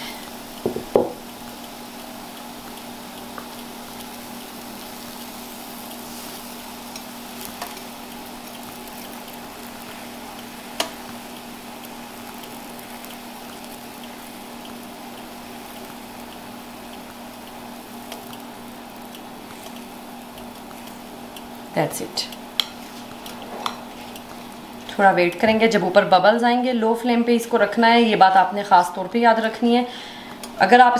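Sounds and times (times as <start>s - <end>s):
batter sizzling in a frying pan: 0.0s - 30.9s.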